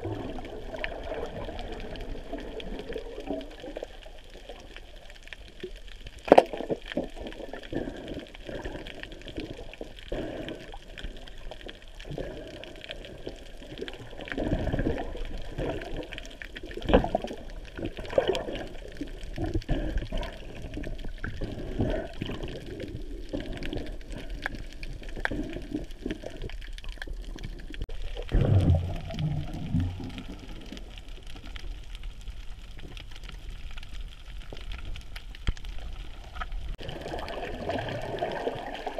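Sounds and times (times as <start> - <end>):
water sloshing and splashing: 0.0 - 31.7, 34.4 - 38.9.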